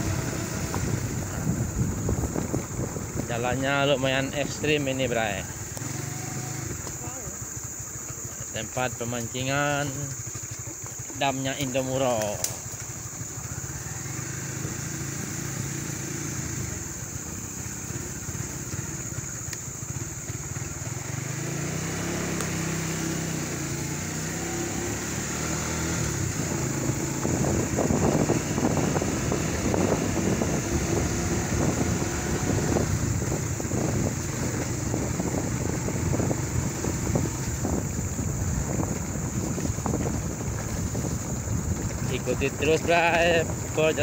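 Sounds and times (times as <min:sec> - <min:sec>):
motorcycle engine on dirt track: 0:00.0 - 0:44.0.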